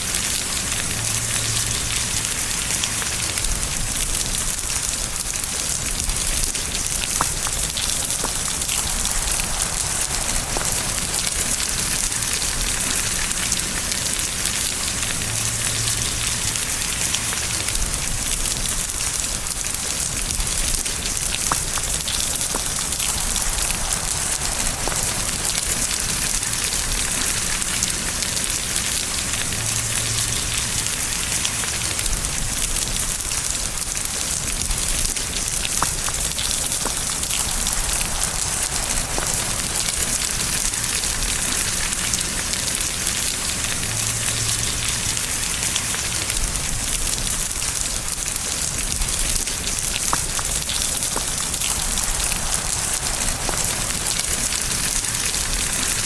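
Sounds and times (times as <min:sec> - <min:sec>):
rain hissing: 0:00.0 - 0:56.0
raindrops ticking: 0:00.0 - 0:56.0.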